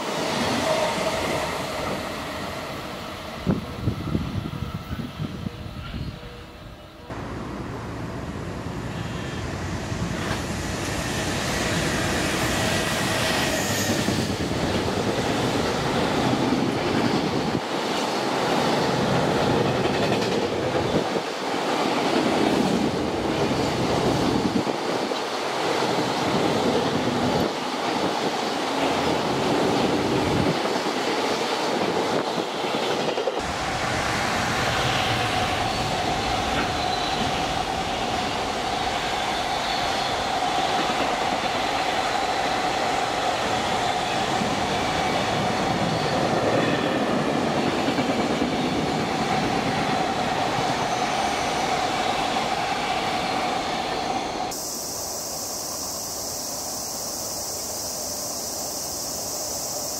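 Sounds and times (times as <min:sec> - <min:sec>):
electric locomotive passing: 0:00.0 - 0:59.9.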